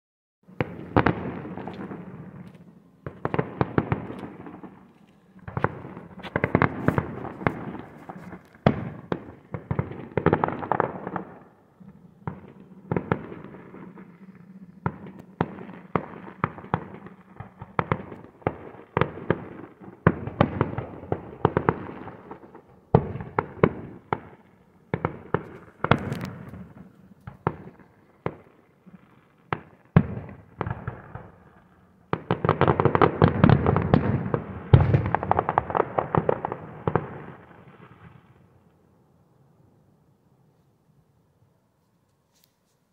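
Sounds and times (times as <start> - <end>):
fireworks bangs: 0.5 - 38.6
fireworks crackling: 0.5 - 38.6.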